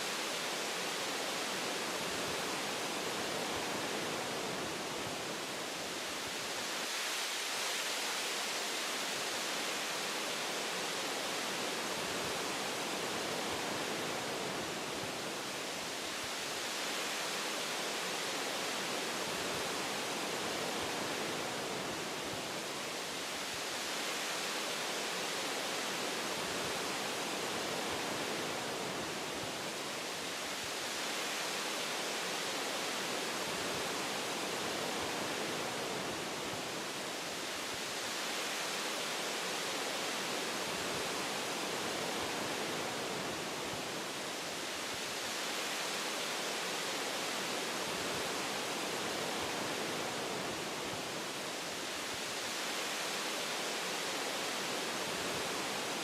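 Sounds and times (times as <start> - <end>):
white noise: 0.0 - 56.0
wind through forest branches: 0.0 - 56.0.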